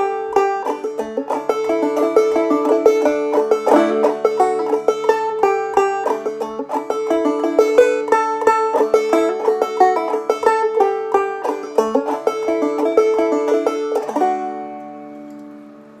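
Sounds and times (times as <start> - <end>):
banjo picking a reel: 0.0 - 15.6.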